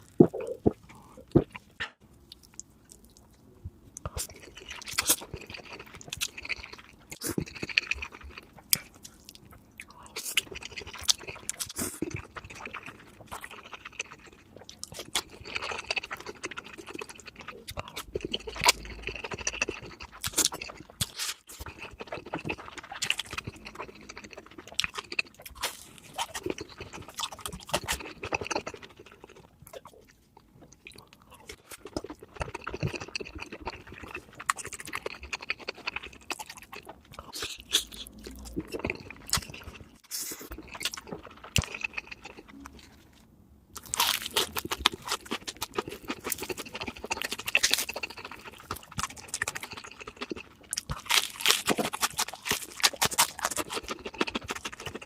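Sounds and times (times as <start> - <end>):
chewing crispy fried food: 0.0 - 55.0.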